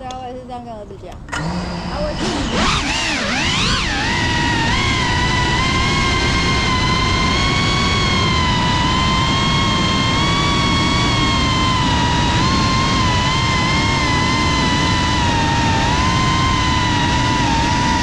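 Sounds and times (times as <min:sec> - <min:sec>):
drone motors whining: 0:01.2 - 0:18.0.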